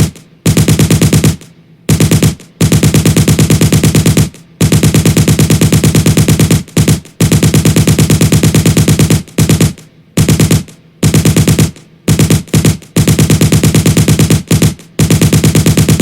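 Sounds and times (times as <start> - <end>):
machine gun firing rapid bursts: 0.0 - 16.0.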